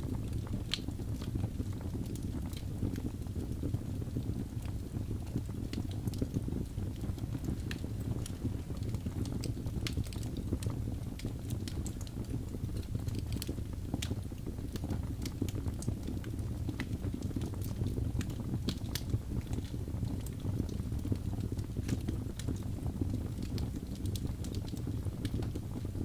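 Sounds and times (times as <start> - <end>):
fire rumbling: 0.0 - 26.0
logs popping and crackling: 0.0 - 26.0.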